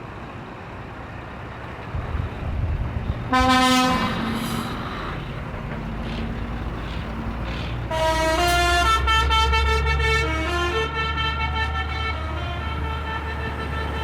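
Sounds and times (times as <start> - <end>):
tractor engines running: 0.0 - 14.0.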